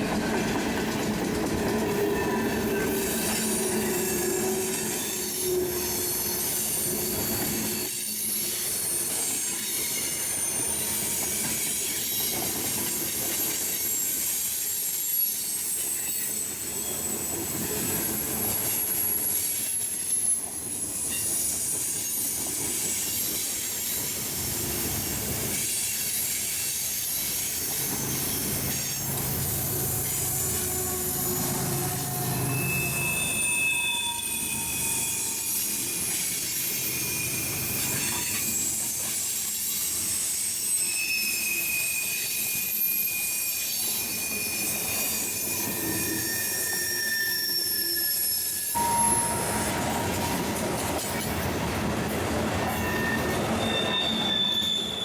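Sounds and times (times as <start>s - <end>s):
train rolling: 0.0s - 55.0s
train wheels squealing on rails: 0.0s - 55.0s.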